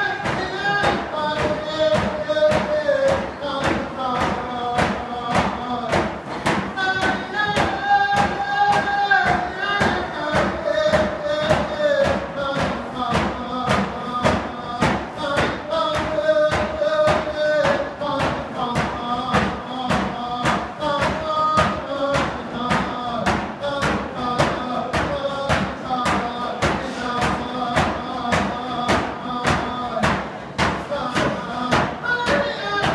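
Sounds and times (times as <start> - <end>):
hand drums beating: 0.0 - 32.9
voices singing: 0.0 - 32.9.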